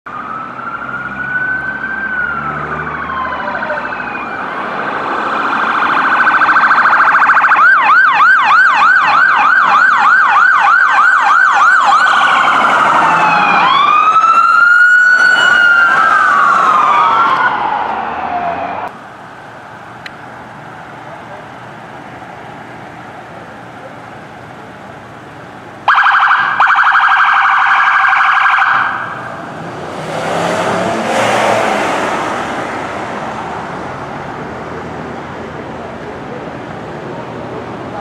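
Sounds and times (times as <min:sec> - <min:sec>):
police sirens wailing and yelping: 0:00.1 - 0:38.0.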